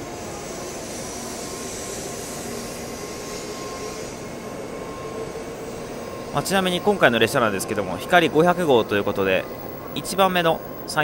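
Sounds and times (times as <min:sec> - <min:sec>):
faint thin whine: 0:00.0 - 0:11.0
train rushing hum: 0:00.0 - 0:11.0.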